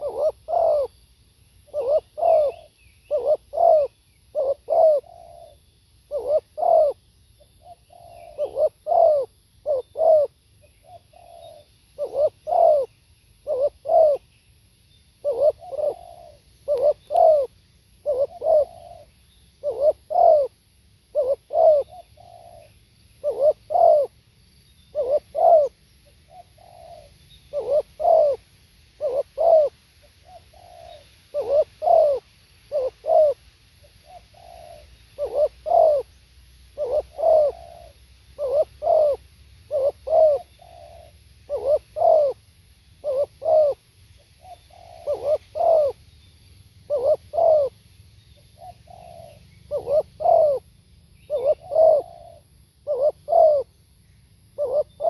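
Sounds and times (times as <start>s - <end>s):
dove cooing: 0.0s - 1.0s, 1.6s - 7.0s, 7.6s - 14.3s, 15.2s - 24.2s, 24.9s - 42.4s, 43.0s - 46.0s, 46.8s - 47.8s, 48.4s - 53.8s, 54.6s - 55.0s.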